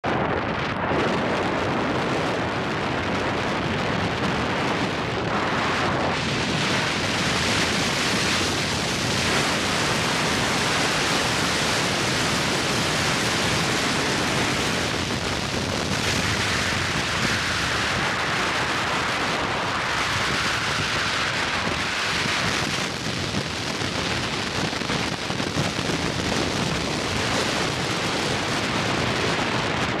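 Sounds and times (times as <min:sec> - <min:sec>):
car tyre and wind noise: 0:00.0 - 0:30.0.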